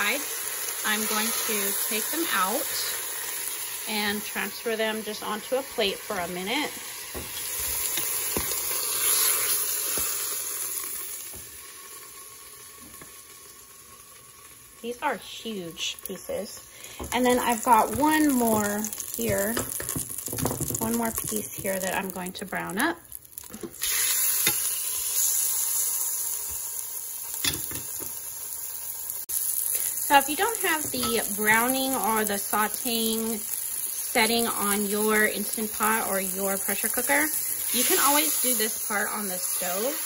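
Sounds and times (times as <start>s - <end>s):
hot oil sizzling: 0.0s - 40.0s.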